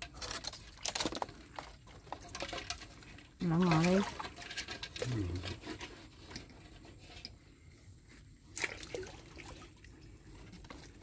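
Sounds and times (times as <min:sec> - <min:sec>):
water sloshing and dripping: 0:00.0 - 0:07.3, 0:08.1 - 0:11.0.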